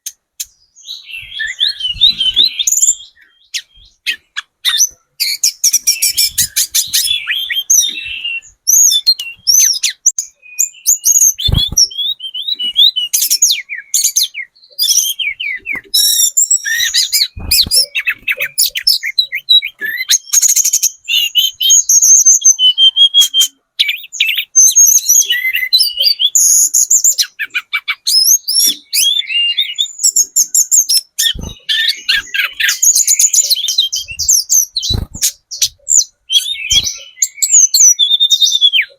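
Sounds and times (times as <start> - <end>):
bird calling with sharp ticks: 0.0 - 22.0, 23.1 - 38.9.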